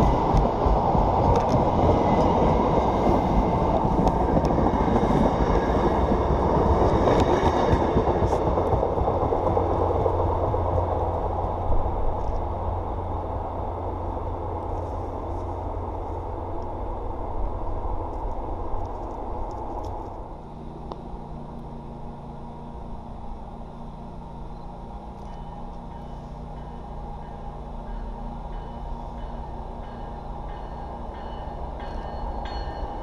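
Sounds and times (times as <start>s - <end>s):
low diesel drone: 0.0s - 33.0s
train wheels rumbling on rail: 0.0s - 33.0s.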